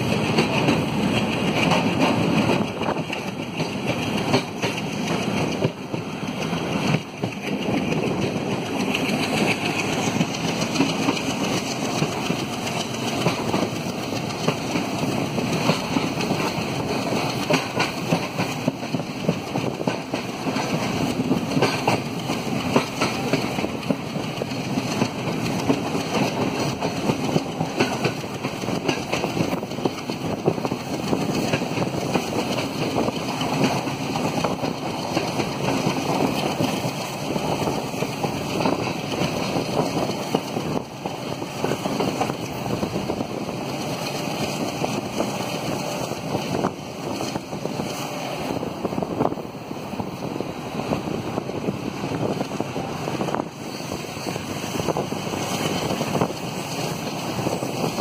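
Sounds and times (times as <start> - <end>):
diesel locomotive engine: 0.0 - 58.0
train wheels rumbling on rail: 0.0 - 58.0.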